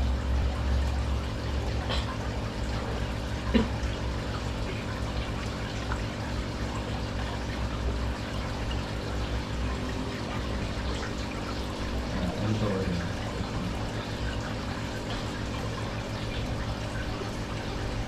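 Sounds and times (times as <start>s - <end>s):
aquarium water pouring: 0.0s - 18.0s.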